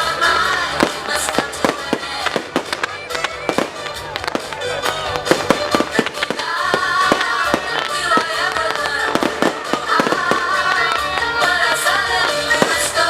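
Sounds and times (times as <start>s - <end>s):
fireworks bangs and crackles: 0.0s - 13.0s
melodic music: 0.0s - 13.0s.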